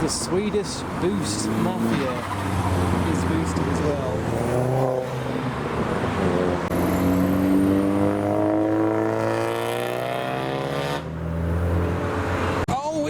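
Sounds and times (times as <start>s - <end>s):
turbocharged car engine accelerating: 0.8s - 12.7s.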